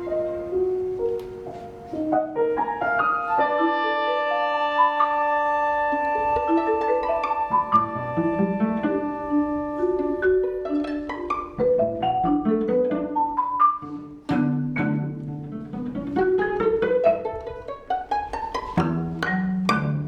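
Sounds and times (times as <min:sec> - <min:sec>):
chamber ensemble music: 0:00.0 - 0:20.0.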